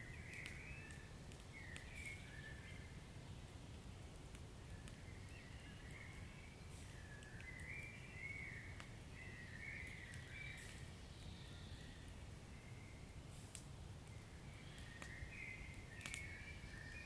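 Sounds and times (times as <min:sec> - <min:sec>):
wood fire rumbling and crackling: 0:00.0 - 0:17.0.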